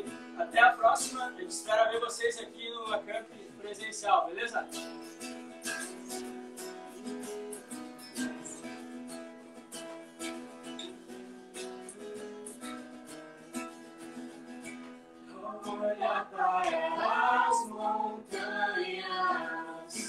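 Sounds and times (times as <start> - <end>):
strummed acoustic guitar chords: 0.0 - 20.0.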